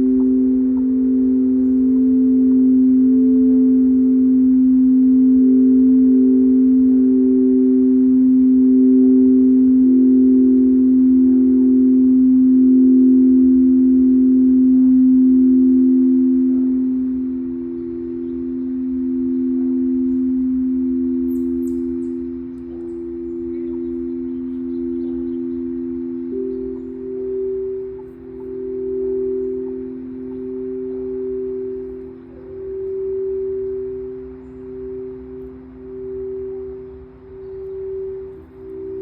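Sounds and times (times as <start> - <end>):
ambient drone music: 0.0 - 39.0.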